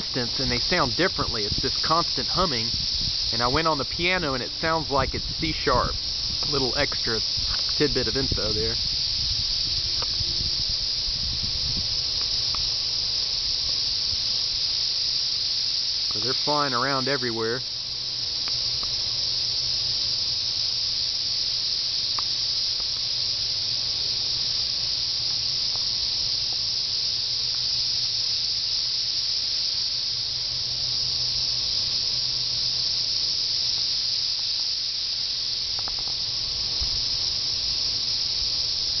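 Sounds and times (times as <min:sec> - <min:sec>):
cicadas chorus humming: 0:00.0 - 0:39.0.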